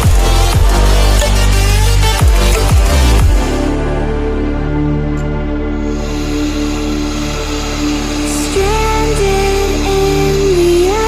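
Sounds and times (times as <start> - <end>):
bass sweeps: 0.0 - 11.0
dubstep music: 0.0 - 11.0.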